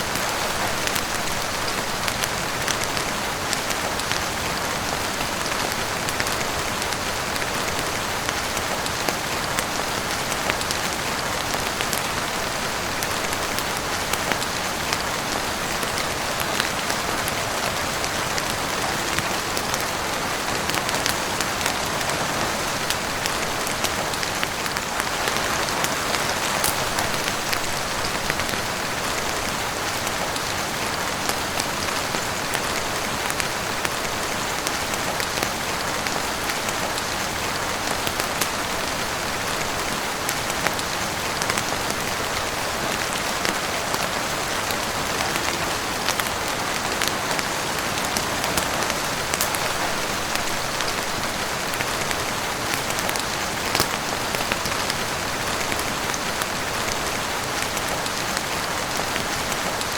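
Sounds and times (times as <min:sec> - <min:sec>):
heavy rain on roof and windows: 0:00.0 - 0:59.9.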